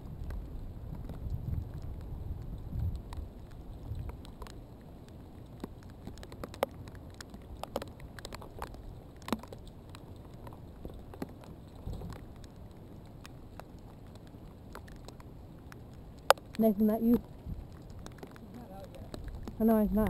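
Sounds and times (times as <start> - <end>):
raindrops ticking: 0.0 - 20.0
wind rumble: 0.0 - 20.0.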